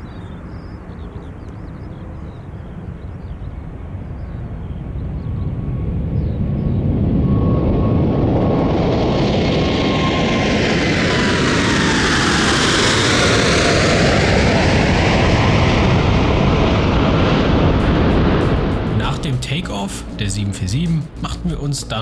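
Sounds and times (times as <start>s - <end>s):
jet roar overhead: 0.0s - 22.0s.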